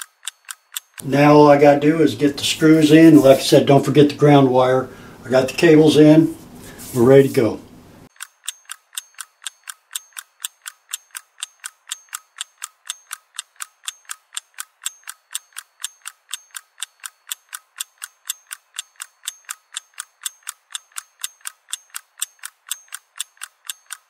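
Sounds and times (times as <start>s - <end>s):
clock ticking: 0.0s - 4.7s, 8.1s - 24.0s.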